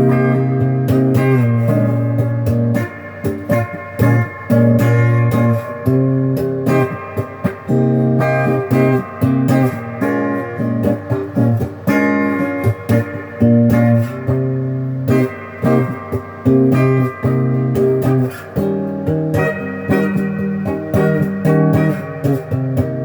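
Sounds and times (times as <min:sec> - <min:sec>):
clean electric guitar chords strummed: 0:00.0 - 0:23.0.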